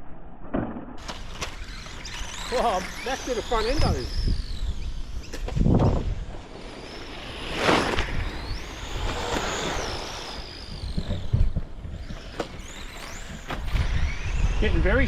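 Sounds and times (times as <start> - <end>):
rc car motor whine: 1.0 - 15.0.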